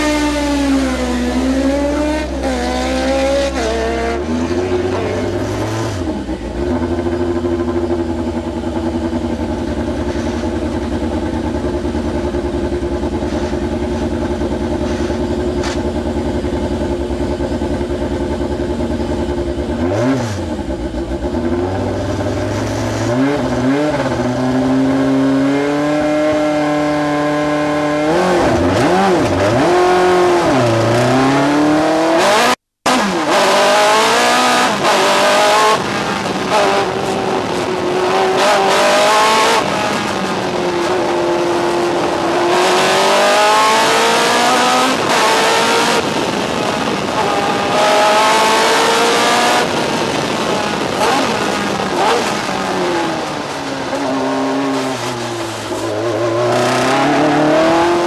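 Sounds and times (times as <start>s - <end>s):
race car engine revving and idling: 0.0s - 58.0s.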